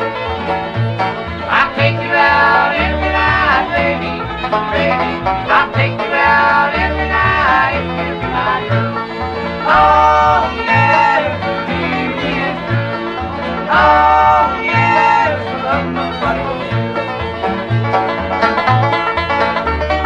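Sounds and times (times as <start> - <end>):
acoustic guitar: 0.0 - 20.0
banjo picking: 0.0 - 20.0
upright bass: 0.0 - 20.0.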